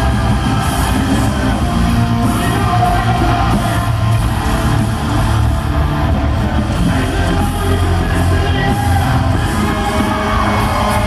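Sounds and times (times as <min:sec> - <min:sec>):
live hard rock band: 0:00.0 - 0:11.0.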